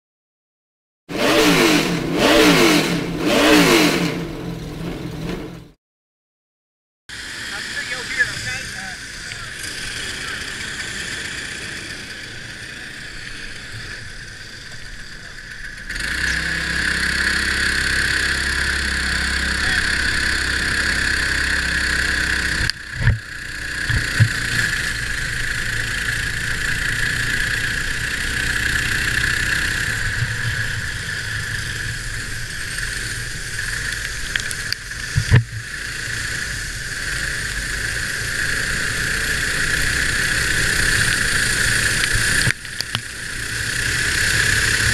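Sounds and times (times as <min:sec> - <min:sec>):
kart engine running: 0:01.1 - 0:05.8, 0:07.1 - 0:44.9.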